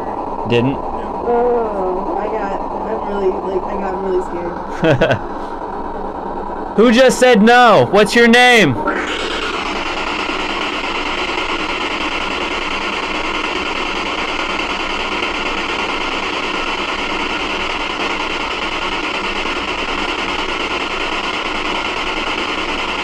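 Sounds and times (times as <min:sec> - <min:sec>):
radio static hiss: 0:00.0 - 0:01.3, 0:02.1 - 0:05.6, 0:06.8 - 0:23.0.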